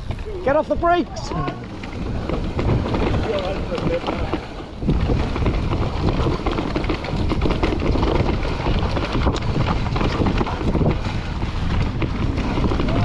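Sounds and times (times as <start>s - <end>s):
bike rattling over bumps: 0.0s - 13.0s
bike tyre noise: 0.0s - 13.0s
wind rushing over microphone: 0.0s - 13.0s.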